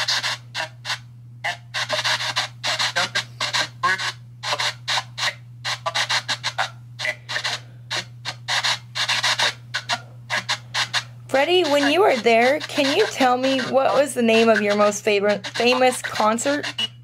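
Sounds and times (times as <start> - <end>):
radio static bursts: 0.0 - 17.0
snatches of broadcast audio: 0.0 - 17.0
steady low hum: 0.0 - 17.0.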